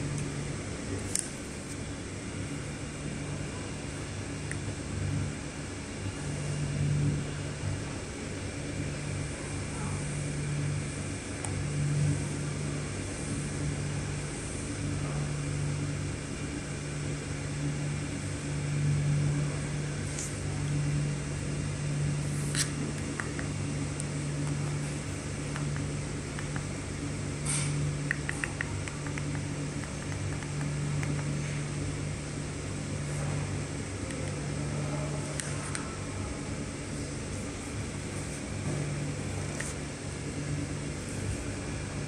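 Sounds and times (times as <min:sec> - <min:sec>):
projector cooling fan humming: 0:00.0 - 0:42.0.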